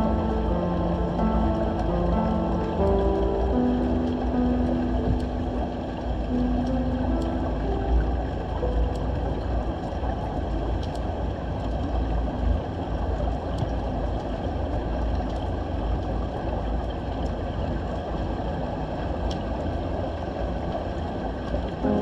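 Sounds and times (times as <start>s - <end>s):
underwater low rumble with hiss: 0.0s - 22.0s.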